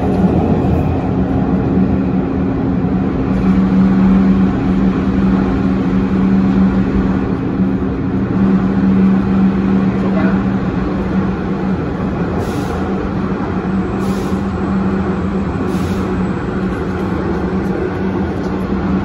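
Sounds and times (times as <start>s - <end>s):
low train hum: 0.0s - 19.0s
train wheels rumbling on rail: 0.0s - 19.0s.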